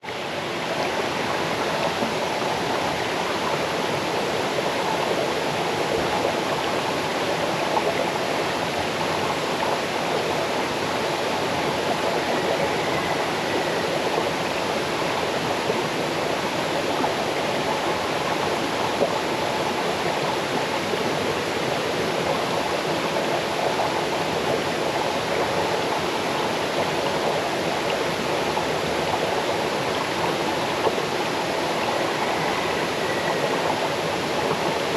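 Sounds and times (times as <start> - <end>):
waterfall over rocks: 0.1 - 34.9.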